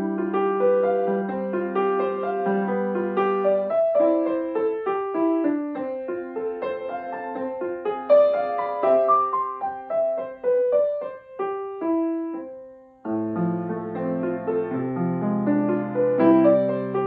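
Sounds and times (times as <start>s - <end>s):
grand piano playing: 0.0s - 17.0s.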